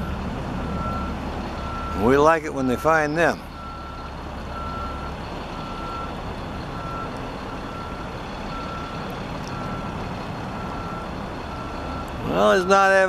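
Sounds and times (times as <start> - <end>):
reversing alarm beeping: 0.0 - 3.0, 3.6 - 6.1, 6.8 - 10.0, 10.6 - 13.0.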